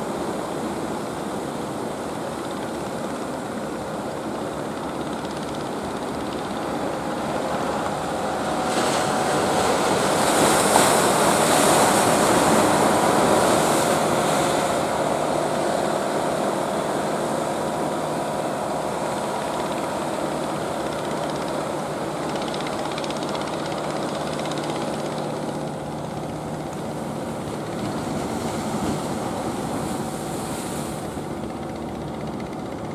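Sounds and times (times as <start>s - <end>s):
boat engines running: 0.0s - 32.9s.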